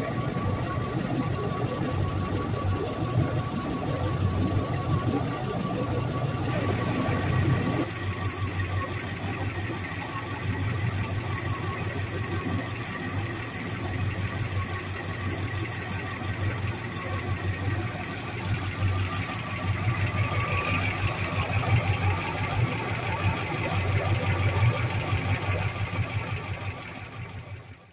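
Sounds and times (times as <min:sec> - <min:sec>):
boat engine rumbling: 0:00.0 - 0:27.9.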